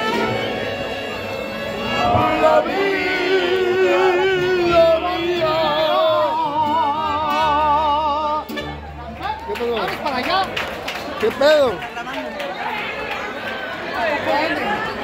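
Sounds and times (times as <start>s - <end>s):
mariachi band playing: 0.0s - 15.0s.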